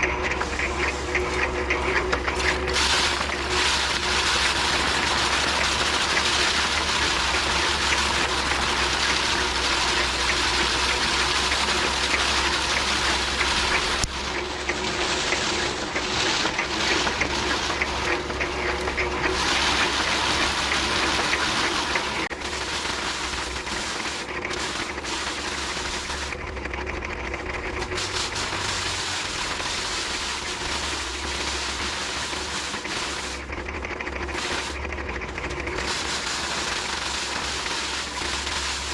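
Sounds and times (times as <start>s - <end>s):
thresher drum whirring and rattling: 0.0s - 38.9s.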